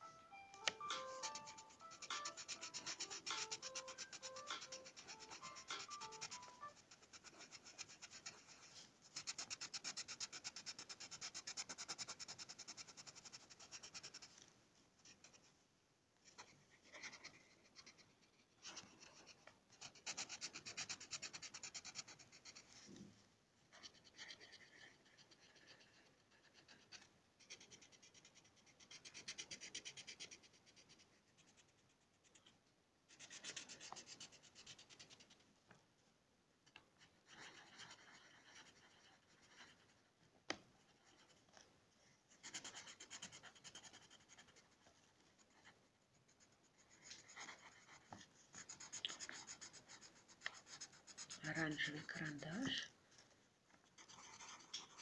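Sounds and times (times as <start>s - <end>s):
pencil scratching on paper: 0.7s - 15.5s, 16.2s - 23.0s, 23.7s - 35.4s, 37.0s - 41.7s, 42.3s - 52.9s, 53.8s - 55.0s.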